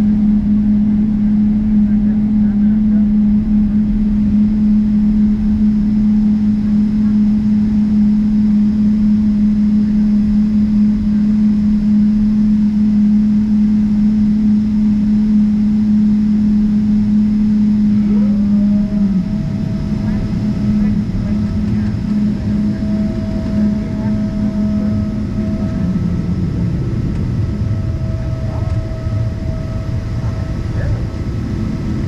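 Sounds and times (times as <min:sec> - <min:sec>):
airplane cabin droning hum: 0:00.0 - 0:32.0.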